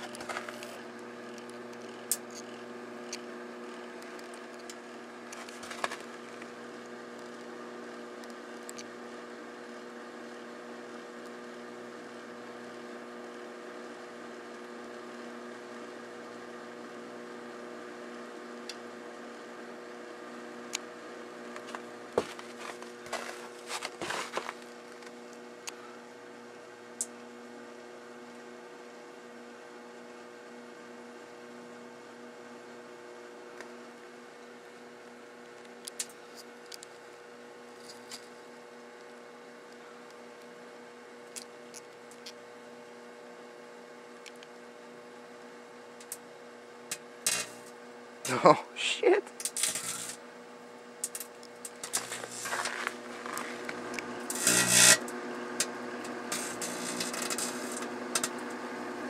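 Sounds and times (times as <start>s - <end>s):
microwave oven humming: 0.0s - 59.0s.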